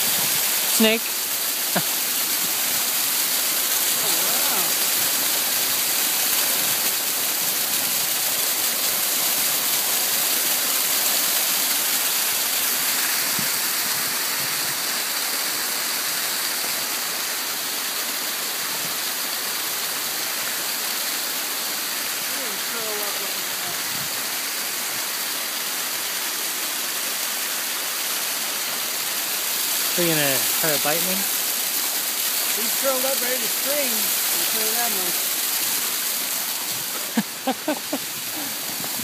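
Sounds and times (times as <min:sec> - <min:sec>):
waterfall splashing on rock: 0:00.0 - 0:39.0.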